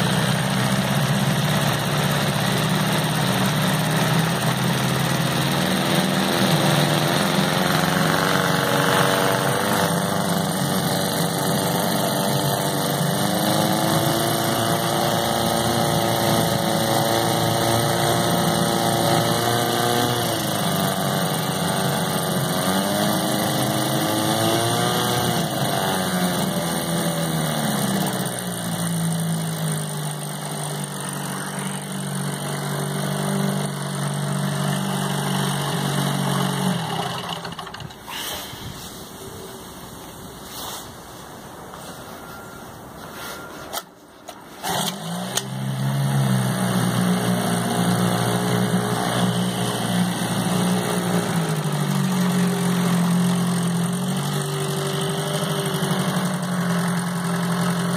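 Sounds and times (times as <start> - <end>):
outboard motor running: 0.0 - 38.1, 44.6 - 57.9.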